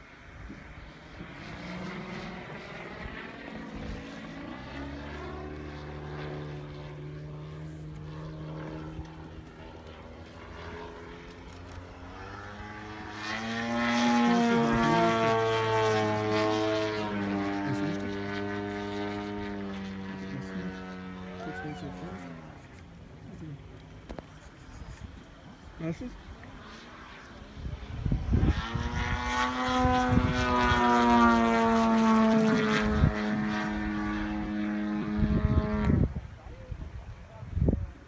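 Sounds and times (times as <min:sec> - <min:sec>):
model plane engine and propeller: 0:00.0 - 0:38.0.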